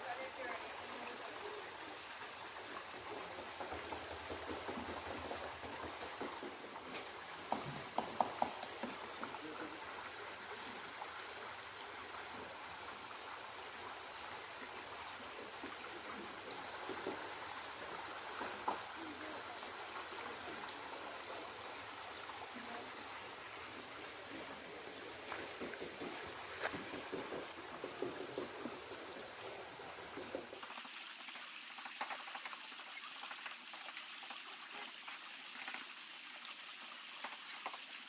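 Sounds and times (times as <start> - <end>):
spring water gushing: 0.0 - 38.0.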